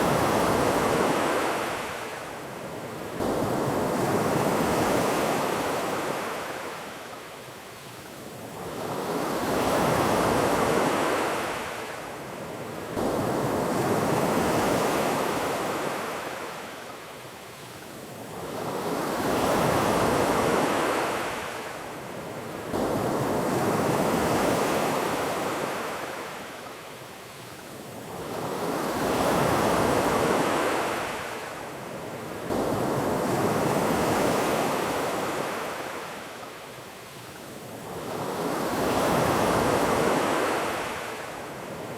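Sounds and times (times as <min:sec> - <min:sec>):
ocean waves washing on beach: 0:00.0 - 0:41.9.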